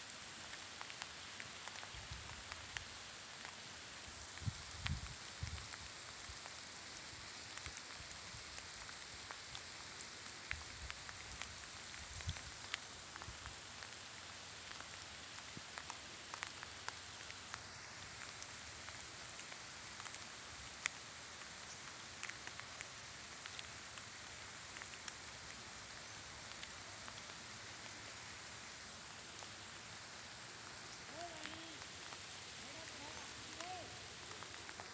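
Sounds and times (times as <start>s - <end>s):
rain hissing: 0.0s - 34.9s
raindrops ticking close by: 0.0s - 34.9s.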